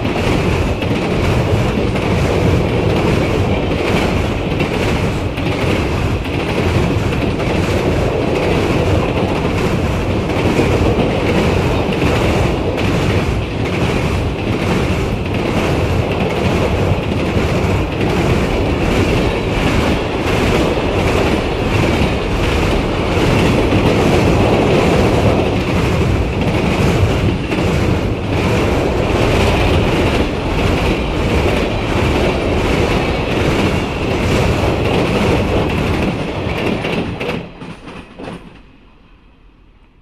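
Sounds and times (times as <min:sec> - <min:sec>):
wheels clacking over rail joints: 0:00.0 - 0:38.6
train rumbling past: 0:00.0 - 0:40.0.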